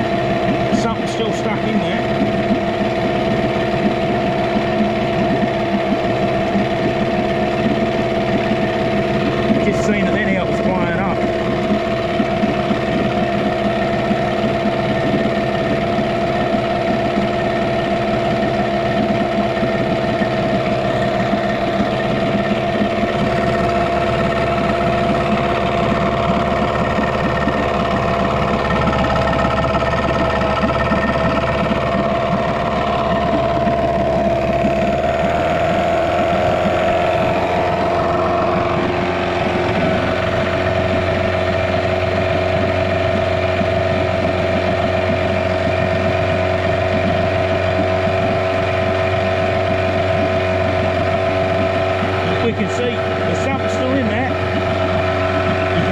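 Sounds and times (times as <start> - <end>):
outboard motor running: 0.0 - 55.9
propeller churning water: 0.0 - 55.9.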